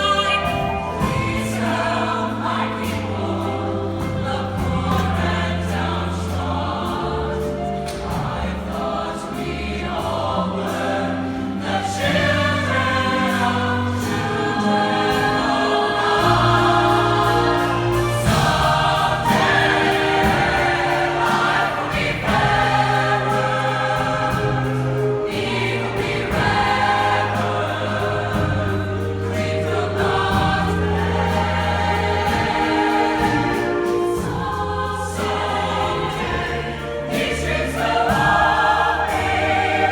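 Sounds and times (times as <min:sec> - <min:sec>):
choir singing in harmony: 0:00.0 - 0:39.9
musical accompaniment: 0:00.0 - 0:39.9.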